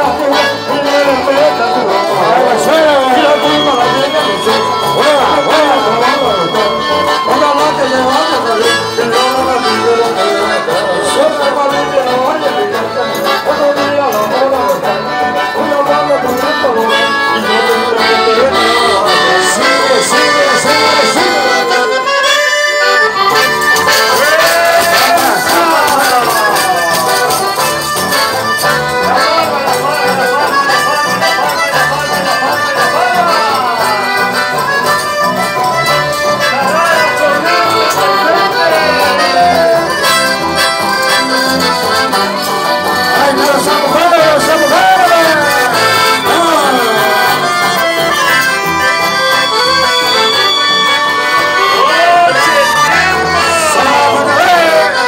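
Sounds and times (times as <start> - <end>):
accordion: 0.0 - 55.0
guitars: 0.0 - 55.0.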